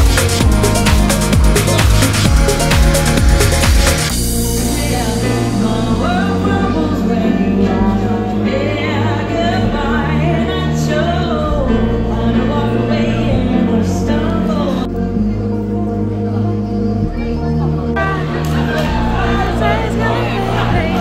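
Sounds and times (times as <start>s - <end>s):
person singing slow song: 0.0s - 17.2s
sustained piano chords: 0.0s - 21.0s.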